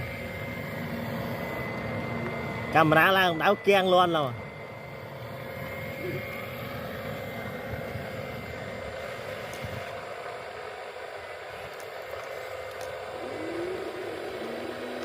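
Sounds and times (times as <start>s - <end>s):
outdoor background noise: 0.0s - 15.0s
small electric motors whining: 0.0s - 15.0s.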